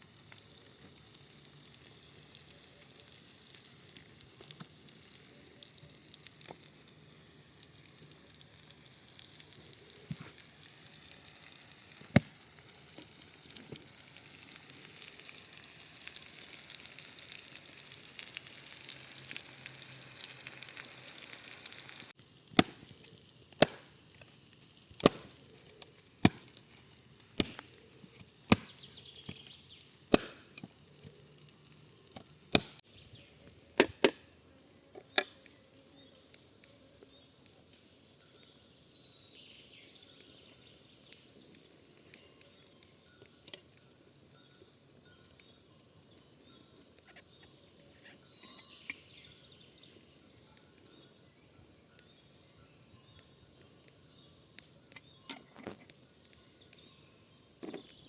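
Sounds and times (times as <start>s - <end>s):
vegetables sizzling in a pan: 0.0s - 41.4s, 42.0s - 56.0s.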